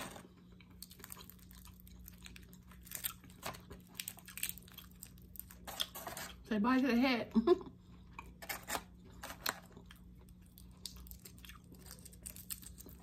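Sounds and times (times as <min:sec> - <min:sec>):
chewing: 0:00.2 - 0:06.4, 0:07.9 - 0:13.0.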